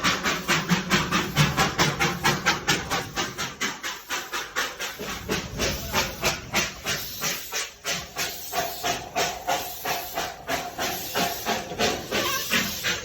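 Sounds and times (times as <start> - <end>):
hissing steam: 0.0 - 13.0
steam locomotive chuffing: 0.0 - 13.0.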